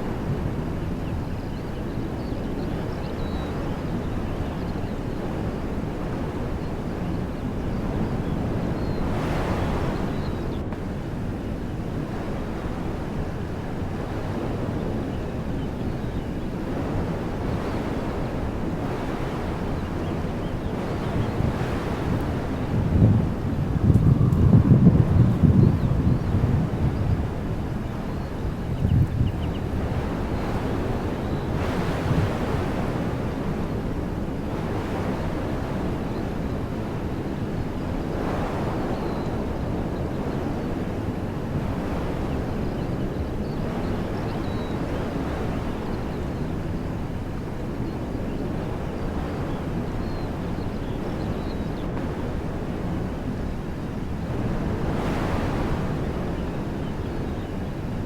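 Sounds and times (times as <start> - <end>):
wind buffeting microphone: 0.0 - 58.0
wind through trees: 0.0 - 58.0.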